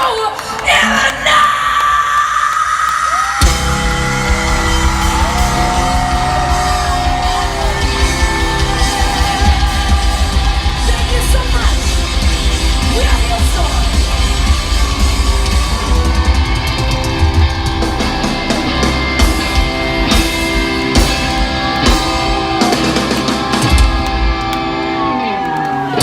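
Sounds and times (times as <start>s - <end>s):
drum and cymbal hits: 3.4s - 24.5s
rock band playing live: 3.4s - 26.0s.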